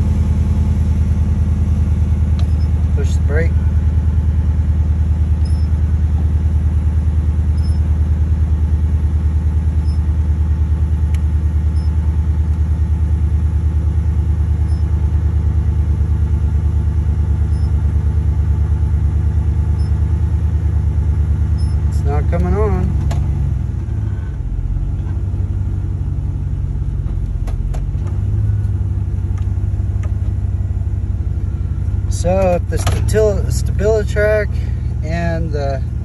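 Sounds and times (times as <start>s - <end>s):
pickup engine idling: 0.0s - 36.0s.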